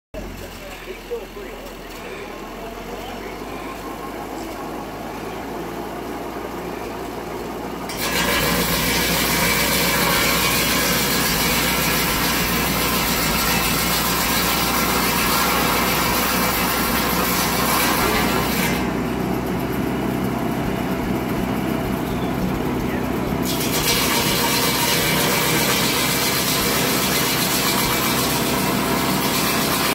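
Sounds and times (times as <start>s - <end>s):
circular saw cutting wood: 0.2s - 29.9s
engine running: 0.2s - 29.9s.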